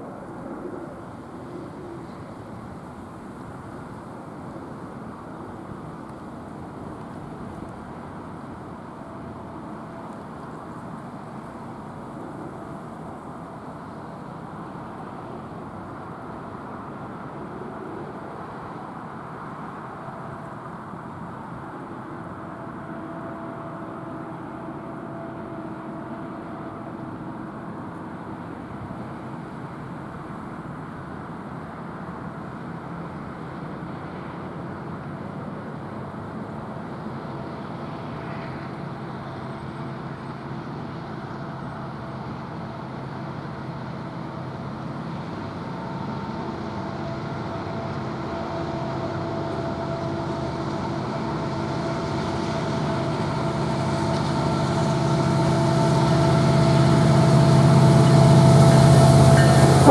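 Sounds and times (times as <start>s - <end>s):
rail rumble: 0.0s - 59.9s
train engine hum: 0.0s - 59.9s.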